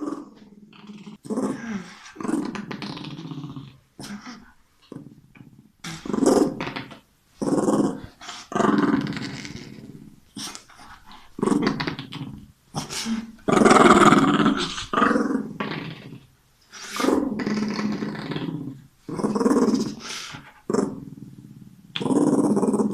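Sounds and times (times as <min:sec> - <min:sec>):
small dog growling: 0:00.0 - 0:22.9.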